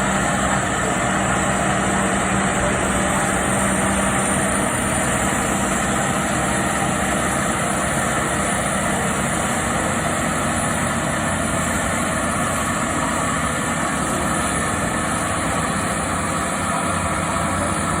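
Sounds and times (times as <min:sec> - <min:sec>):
train engine running: 0:00.0 - 0:18.0.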